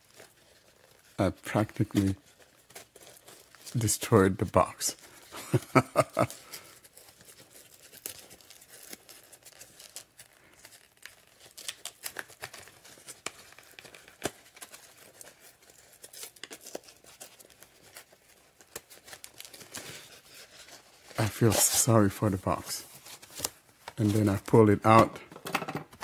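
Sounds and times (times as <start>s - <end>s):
cardboard crinkling and tearing: 0.0s - 25.2s.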